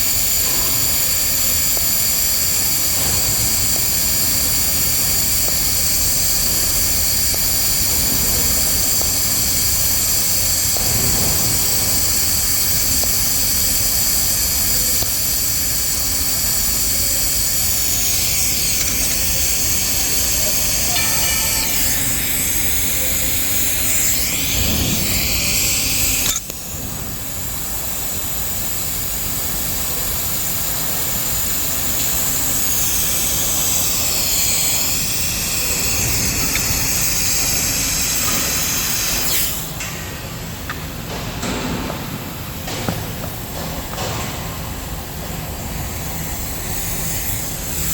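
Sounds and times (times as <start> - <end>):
welding arc hissing and crackling: 0.0 - 47.9.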